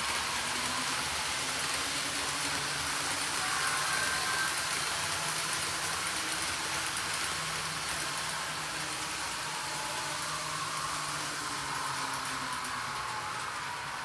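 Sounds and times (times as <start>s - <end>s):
model train wheels rolling on rail: 0.0s - 14.0s.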